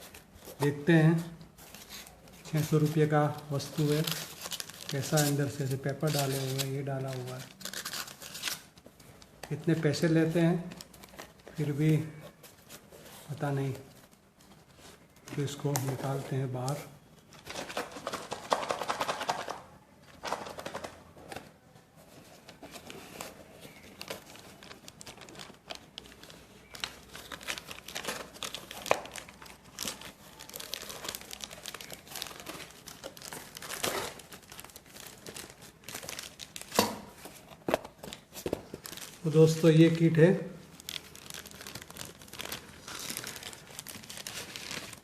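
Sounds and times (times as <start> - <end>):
packing paper crinkling: 0.0 - 45.0.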